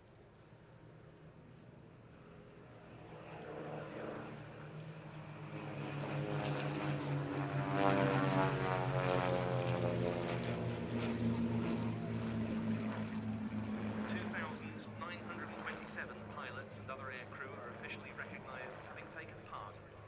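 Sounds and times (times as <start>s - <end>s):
propeller aircraft flying past: 0.0s - 20.0s.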